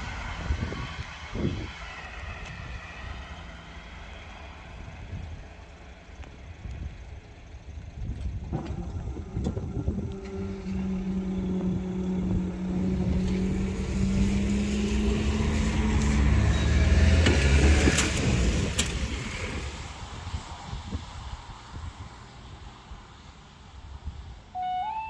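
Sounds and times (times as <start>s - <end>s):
vehicle driving over crossing: 0.0s - 20.1s.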